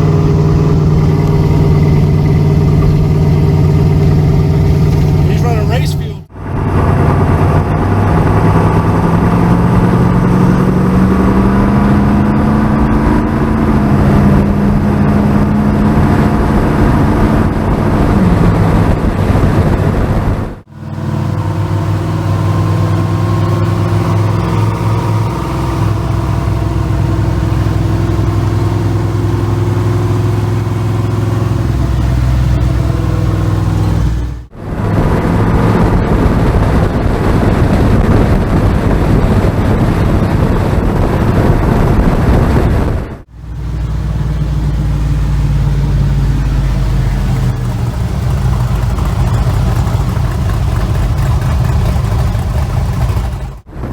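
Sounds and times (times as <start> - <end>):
car engine running: 0.0 - 19.8, 20.6 - 53.8.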